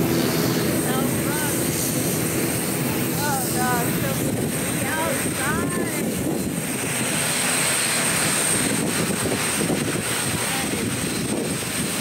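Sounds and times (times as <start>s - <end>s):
airplane engines running: 0.0s - 12.0s.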